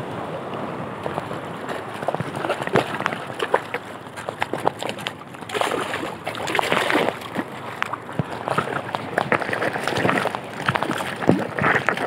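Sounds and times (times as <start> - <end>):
choppy water sloshing and splashing: 0.0 - 12.0.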